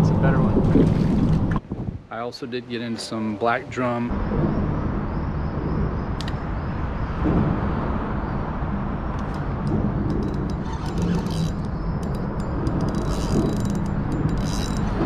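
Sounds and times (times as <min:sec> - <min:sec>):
traffic rumble on bridge overhead: 0:02.7 - 0:15.0.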